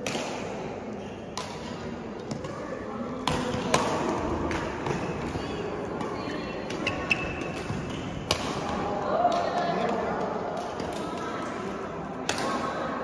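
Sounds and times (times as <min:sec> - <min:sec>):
rackets striking shuttlecock: 0:00.0 - 0:02.6, 0:03.2 - 0:06.1, 0:06.7 - 0:12.8
background hubbub: 0:00.0 - 0:13.0.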